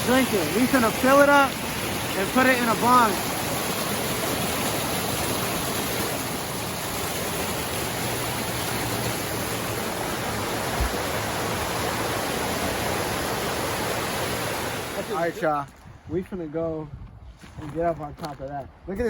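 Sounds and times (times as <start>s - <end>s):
stream rushing: 0.0s - 15.8s.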